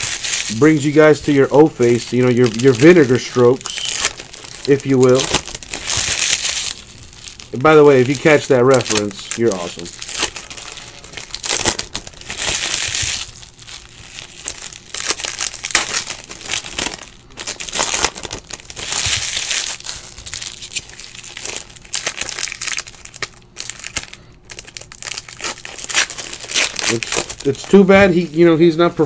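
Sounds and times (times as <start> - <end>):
foil wrappers crinkling and tearing: 0.0 - 28.8.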